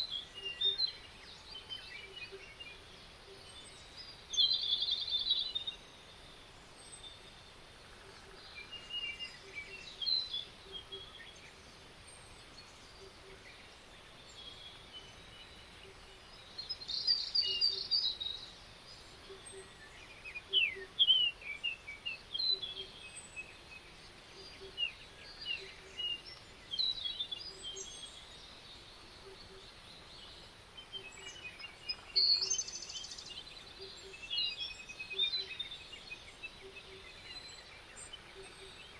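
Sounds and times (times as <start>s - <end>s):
faint steady background noise: 0.0s - 38.9s
songbirds singing and calling: 0.0s - 38.9s.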